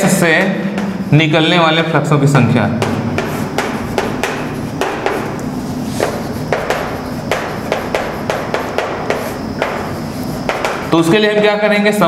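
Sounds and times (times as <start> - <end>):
chalk tapping and scratching: 0.3 - 1.6, 2.8 - 11.2.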